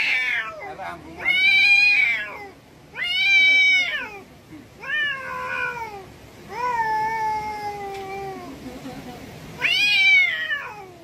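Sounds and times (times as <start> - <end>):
cat yowling: 0.0 - 8.5, 9.6 - 11.0.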